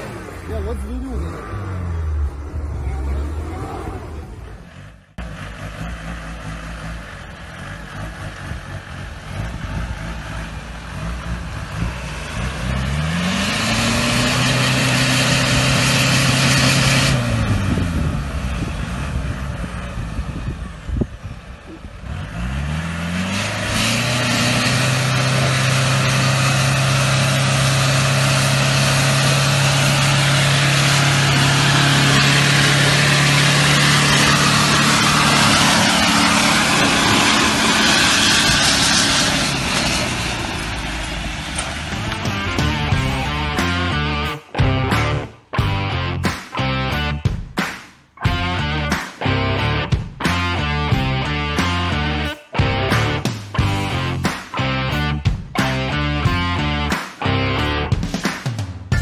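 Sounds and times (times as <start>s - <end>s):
vehicle engine revving: 0.0s - 47.3s, 48.2s - 58.0s.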